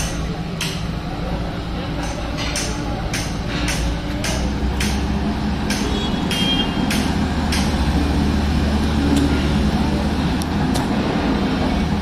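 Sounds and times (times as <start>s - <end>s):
diesel machinery rumbling: 0.0s - 12.0s.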